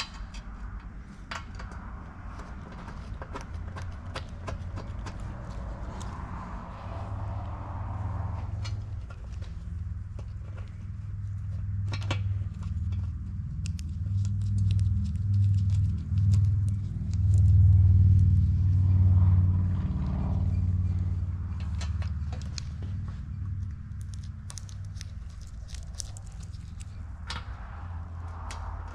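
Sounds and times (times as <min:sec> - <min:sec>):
motor vehicle rumbling: 0:00.0 - 0:28.9.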